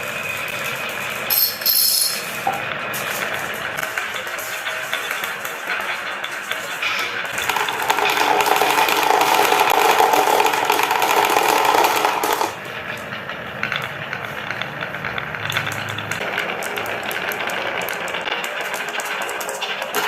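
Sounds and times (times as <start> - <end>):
marbles rolling on wooden tracks: 0.0 - 20.0
marbles clicking on wood: 1.3 - 20.0.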